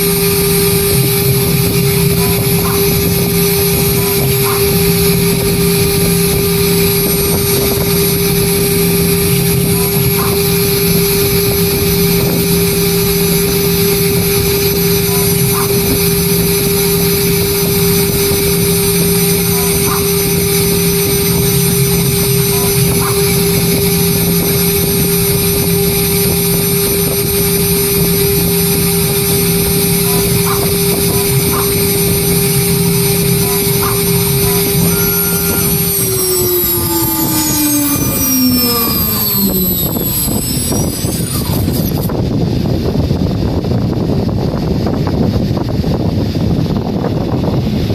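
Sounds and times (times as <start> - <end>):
engraving machine spindle whine: 0.0 - 43.4.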